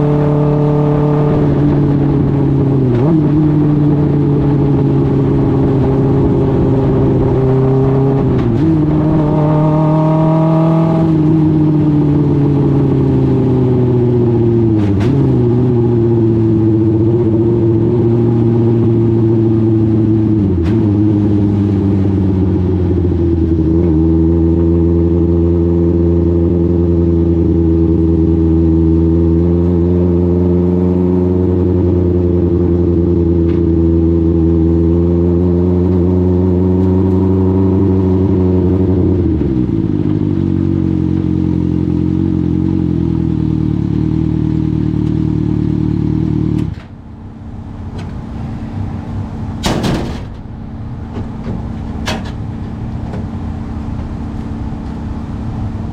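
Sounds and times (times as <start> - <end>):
motorcycle engine running: 0.0 - 30.5, 31.2 - 47.9.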